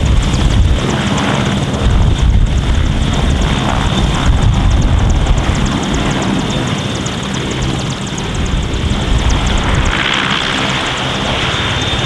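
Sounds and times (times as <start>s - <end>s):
helicopter engines and rotor running: 0.0s - 12.0s.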